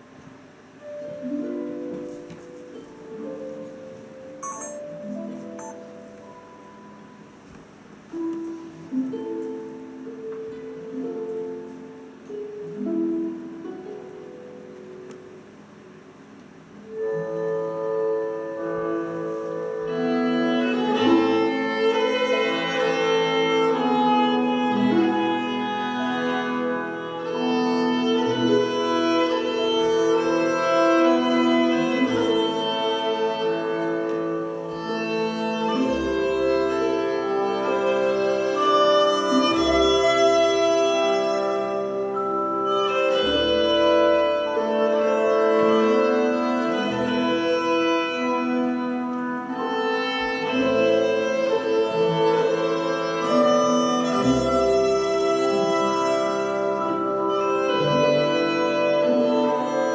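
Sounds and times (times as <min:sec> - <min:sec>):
slow bowed string music: 0:00.8 - 0:59.9.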